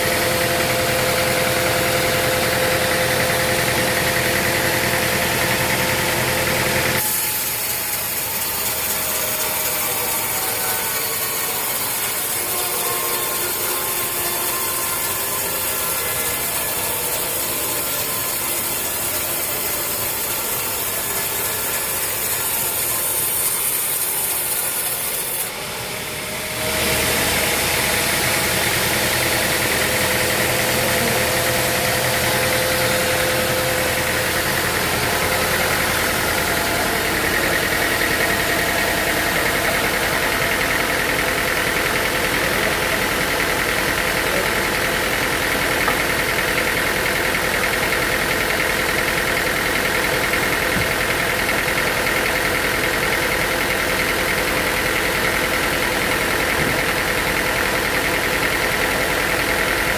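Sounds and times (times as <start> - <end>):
engine drone with whine: 0.0 - 24.8, 25.4 - 59.9
sawmill sawing and rasping: 0.0 - 59.9.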